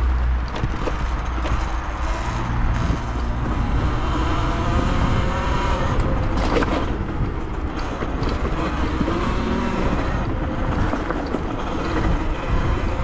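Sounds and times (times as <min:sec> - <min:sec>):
wind rumble on microphone: 0:00.0 - 0:13.0
tyres and chain rattling: 0:00.5 - 0:13.0
electric motor whine: 0:00.6 - 0:13.0.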